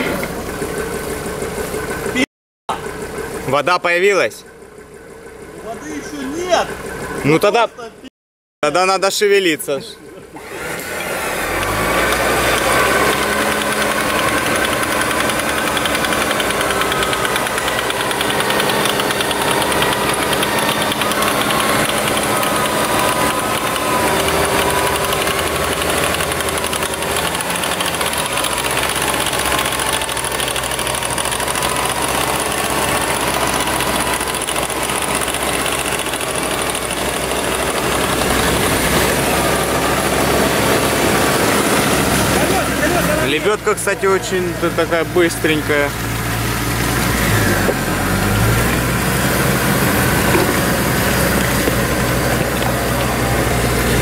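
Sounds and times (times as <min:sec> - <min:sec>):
off-road vehicle engine running: 0:00.0 - 0:54.0
electric winch motor whine: 0:10.2 - 0:54.0.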